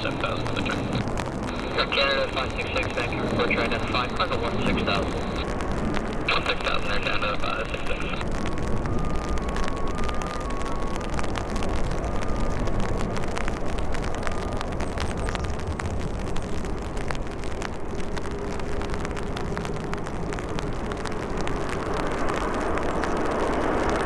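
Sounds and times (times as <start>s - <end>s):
jet engines rumbling: 0.0s - 24.0s
raindrops ticking: 0.0s - 24.0s.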